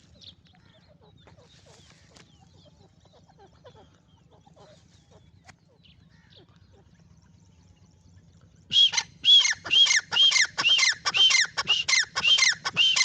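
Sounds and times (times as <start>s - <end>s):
birds chirping and clucking: 0.0s - 8.1s, 8.7s - 13.0s
low hum: 0.0s - 13.0s.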